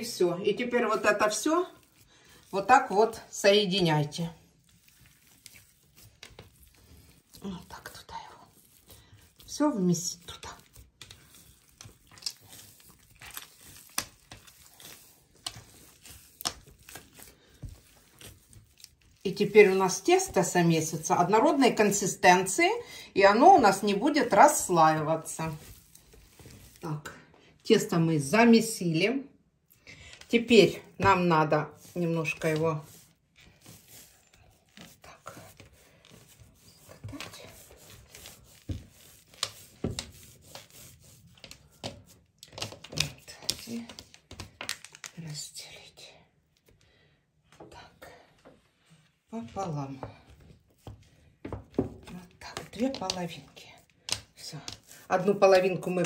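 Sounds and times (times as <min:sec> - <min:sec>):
hands kneading sticky dough: 0:00.0 - 0:28.8, 0:30.2 - 0:45.3, 0:49.3 - 0:56.0.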